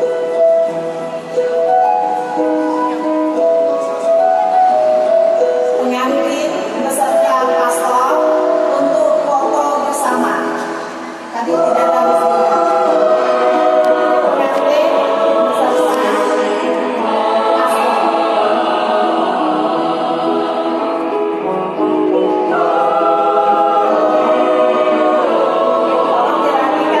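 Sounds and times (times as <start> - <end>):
choir singing held chords: 4.5 - 27.0.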